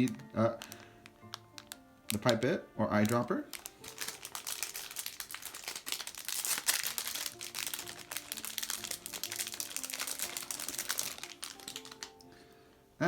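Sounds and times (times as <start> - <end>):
crinkling and rustling: 0.0 - 12.3
light background music: 0.0 - 13.0.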